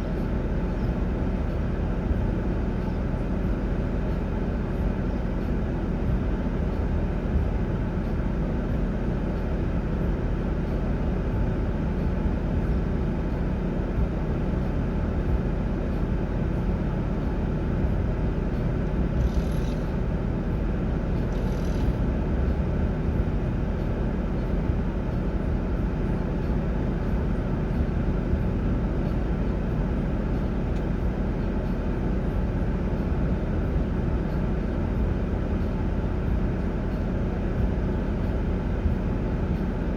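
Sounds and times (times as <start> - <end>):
low vehicle rumble: 0.0 - 39.9.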